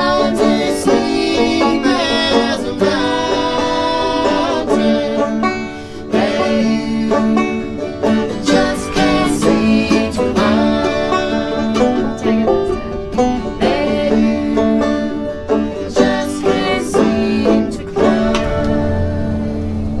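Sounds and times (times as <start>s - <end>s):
acoustic guitar: 0.0s - 20.0s
banjo: 0.0s - 20.0s
mandolin: 0.0s - 20.0s.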